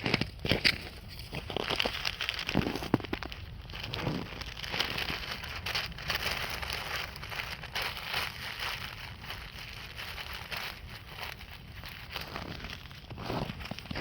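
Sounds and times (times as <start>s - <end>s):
low wind rumble: 0.0s - 14.0s
campfire crackling: 0.4s - 14.0s.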